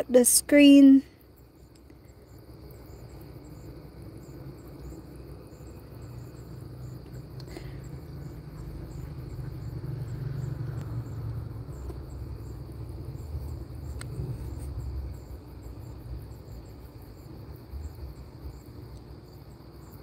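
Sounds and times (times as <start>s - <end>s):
insects chirping: 0.0s - 20.0s
low steady rumble: 0.0s - 20.0s.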